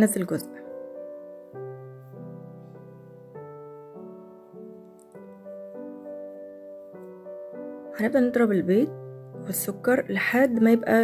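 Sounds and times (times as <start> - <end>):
soft keyboard music: 0.0 - 11.0.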